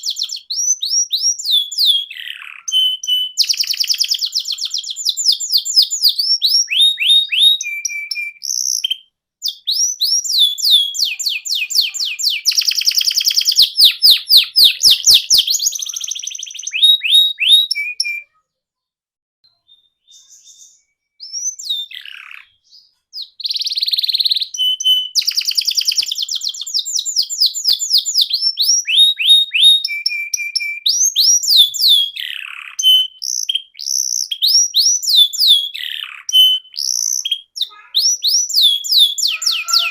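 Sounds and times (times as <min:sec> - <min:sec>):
canary singing: 0:00.0 - 0:18.4, 0:19.5 - 0:39.9.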